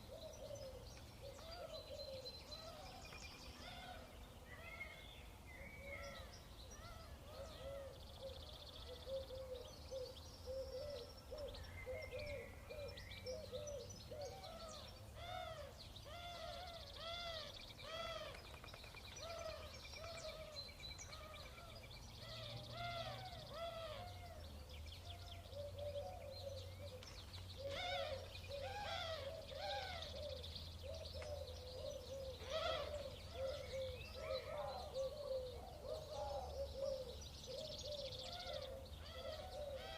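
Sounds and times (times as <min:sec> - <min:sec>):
birds calling in chorus: 0:00.0 - 0:39.9.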